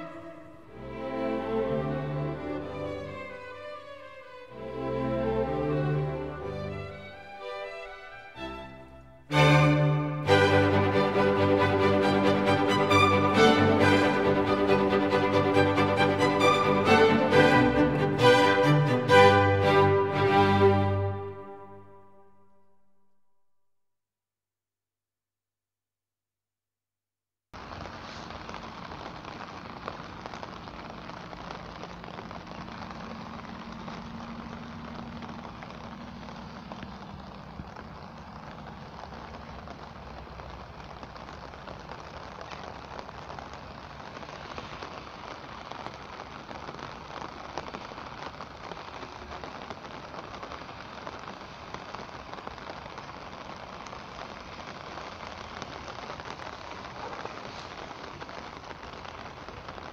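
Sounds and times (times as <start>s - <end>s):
steady rain falling: 0.0s - 22.1s, 27.6s - 59.9s.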